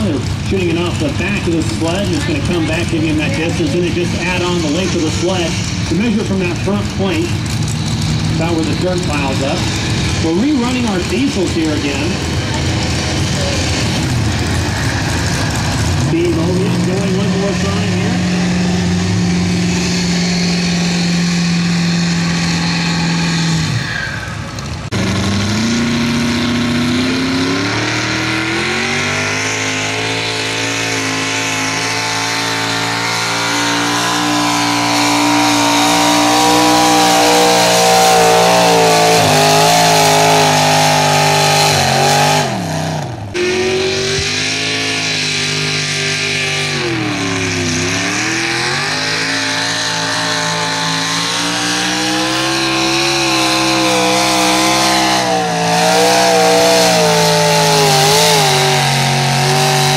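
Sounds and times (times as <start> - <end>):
diesel engine under heavy load: 0.0 - 59.9.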